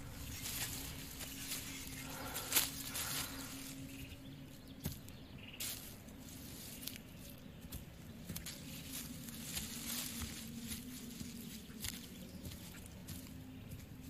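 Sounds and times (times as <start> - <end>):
faint low hum: 0.0 - 14.0
footsteps on dry leaves: 0.0 - 14.0.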